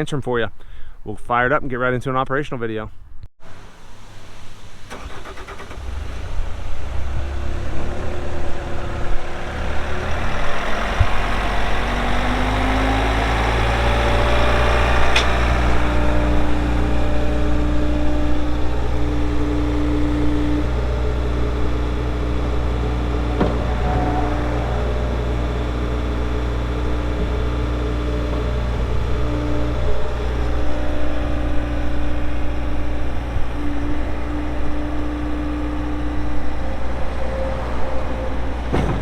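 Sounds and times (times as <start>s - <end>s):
diesel engine starting and idling: 3.4s - 39.0s.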